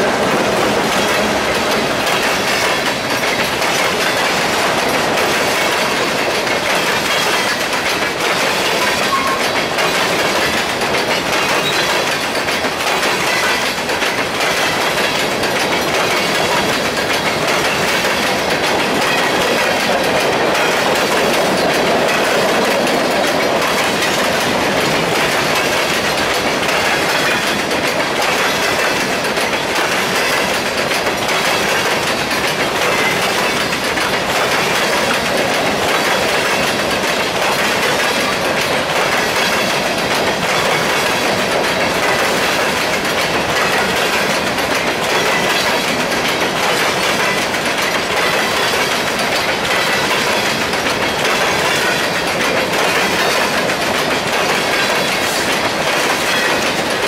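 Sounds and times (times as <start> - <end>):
freight train wheels clattering: 0.0 - 57.0.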